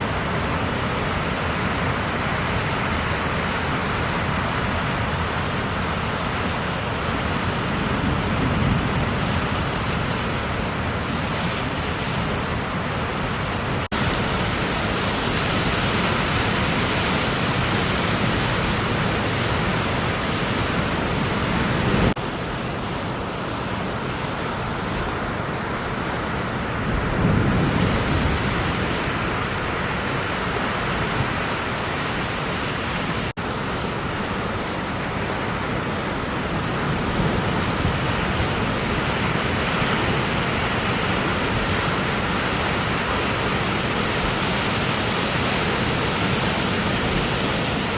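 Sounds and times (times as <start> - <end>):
wind noise: 0.0 - 22.2, 23.9 - 47.9
waves breaking: 0.0 - 47.9.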